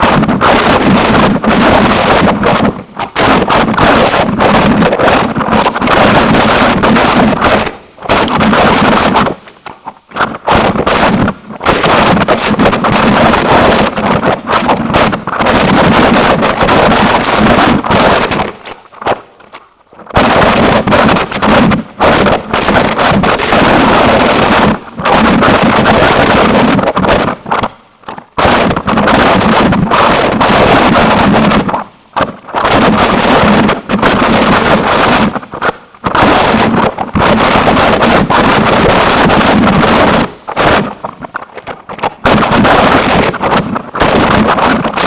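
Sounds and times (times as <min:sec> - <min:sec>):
harsh distorted noise music: 0:00.0 - 0:45.0.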